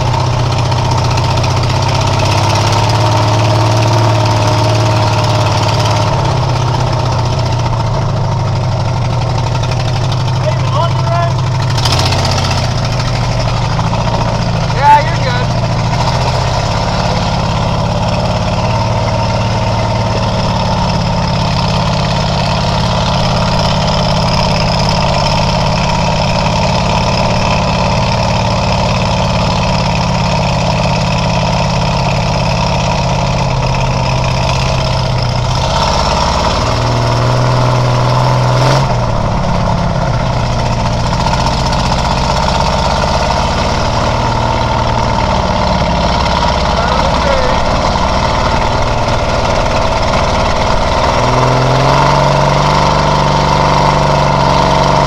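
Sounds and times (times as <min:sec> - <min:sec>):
work machine engine running: 0:00.0 - 0:55.0.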